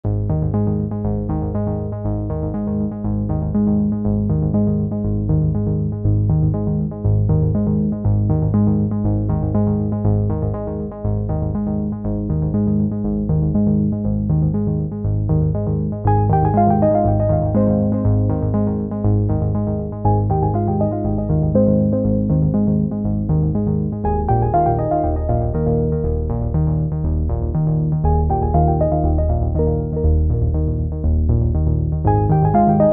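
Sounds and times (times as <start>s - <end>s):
synthesizer and keyboard music: 0.1s - 32.9s.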